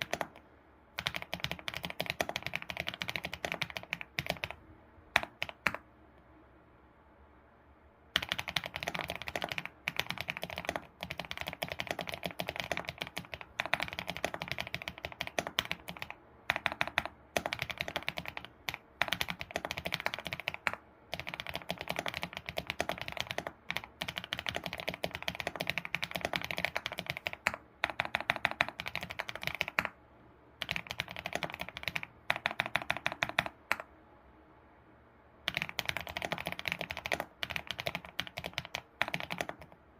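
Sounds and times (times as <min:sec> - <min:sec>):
fast keyboard typing: 0:00.0 - 0:00.4, 0:01.0 - 0:05.8, 0:08.2 - 0:30.0, 0:30.6 - 0:33.9, 0:35.4 - 0:39.8.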